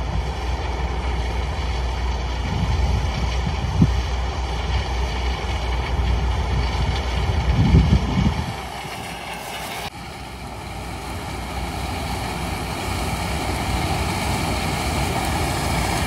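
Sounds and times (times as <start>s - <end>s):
harvester engine rumble: 0.0s - 16.0s.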